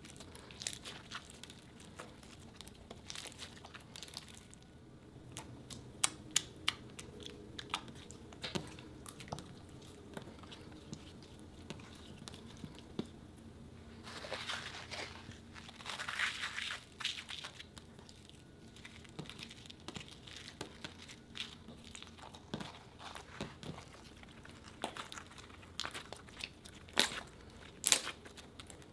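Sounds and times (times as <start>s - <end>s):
slime crackling and popping: 0.0s - 10.0s, 14.2s - 28.9s.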